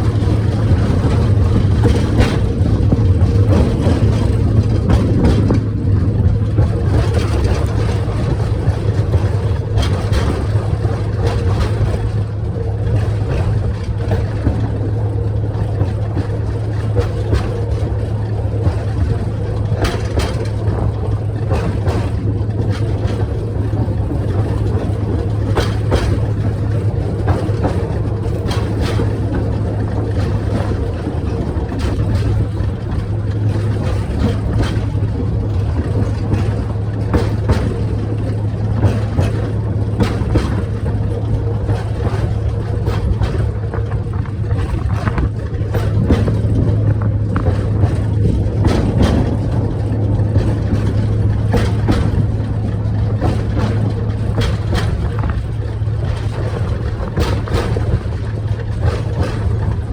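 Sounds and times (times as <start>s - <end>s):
low train engine hum: 0.0s - 59.9s
wheels and carriages clacking: 0.0s - 59.9s.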